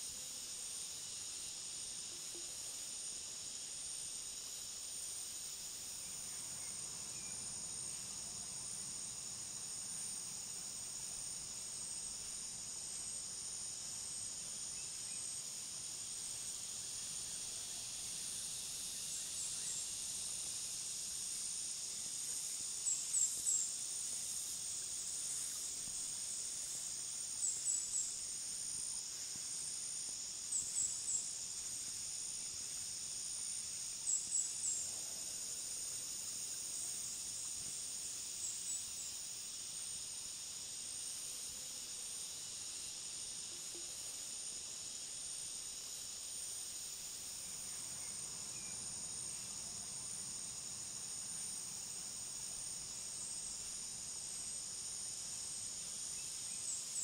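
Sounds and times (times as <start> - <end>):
crickets and cicadas chorus: 0.0 - 57.0.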